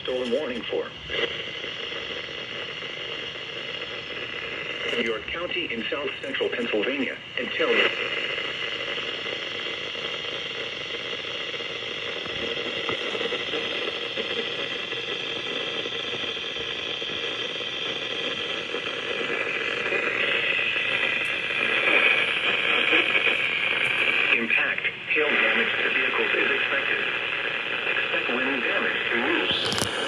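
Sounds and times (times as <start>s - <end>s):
radio static hiss and crackle: 0.0s - 30.0s.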